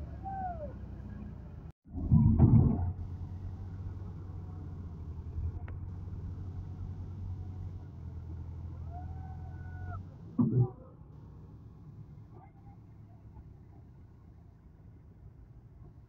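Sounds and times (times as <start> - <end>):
tractor diesel engine under load: 0.0 - 15.5.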